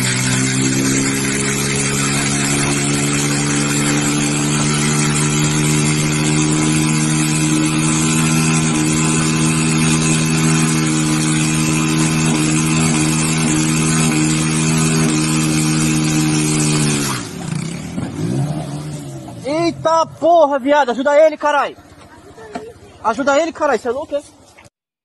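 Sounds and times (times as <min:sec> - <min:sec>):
motorcycle engine revving high: 0:00.0 - 0:24.5
tyre scrubbing on asphalt: 0:00.0 - 0:24.8.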